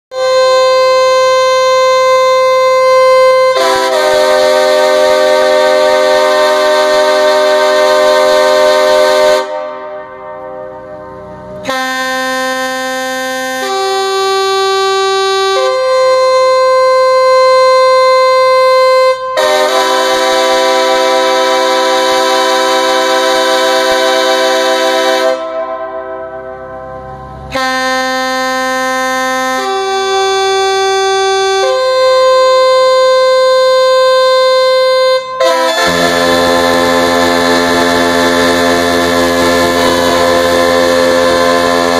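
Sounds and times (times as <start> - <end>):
air horn held notes: 0.1 - 41.9.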